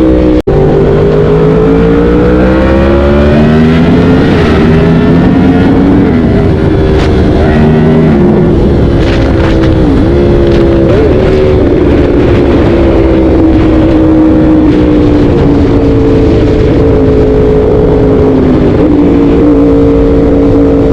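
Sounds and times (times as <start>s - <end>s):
motorcycle engine at high revs: 0.0s - 20.9s.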